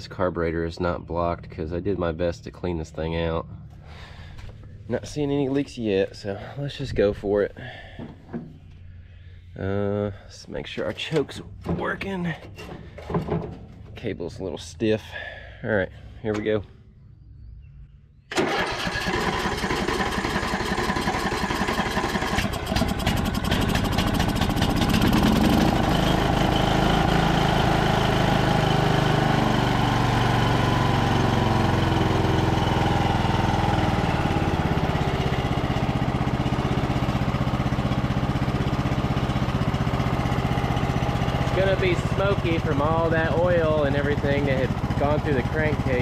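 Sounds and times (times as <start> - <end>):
riding mower engine starting: 3.2 - 15.4, 18.3 - 46.0.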